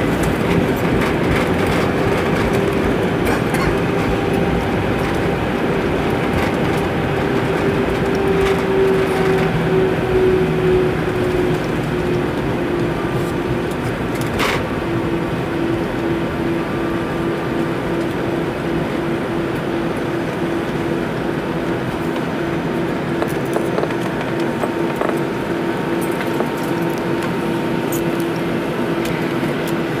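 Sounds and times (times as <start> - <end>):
engine and rolling rush: 0.0 - 30.0
humming tone: 0.0 - 30.0.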